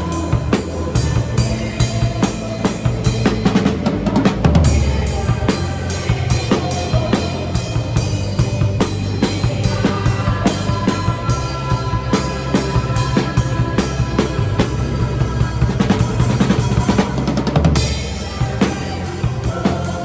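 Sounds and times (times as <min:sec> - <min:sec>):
song music: 0:00.0 - 0:20.0.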